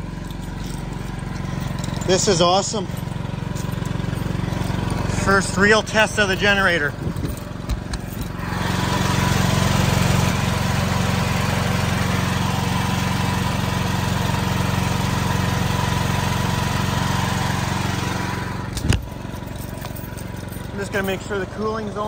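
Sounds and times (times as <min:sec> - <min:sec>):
generator engine humming: 0:00.0 - 0:22.0.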